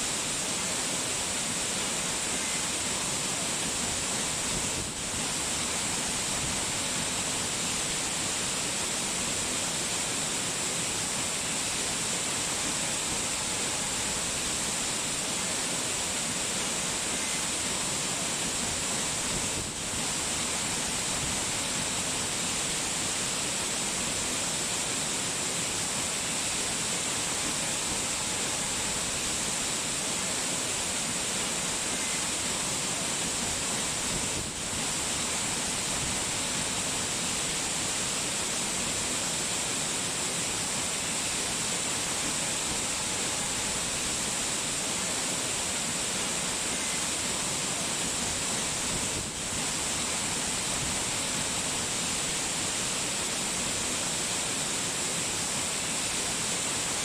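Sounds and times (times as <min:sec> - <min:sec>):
falling water rushing: 0:00.0 - 0:57.0.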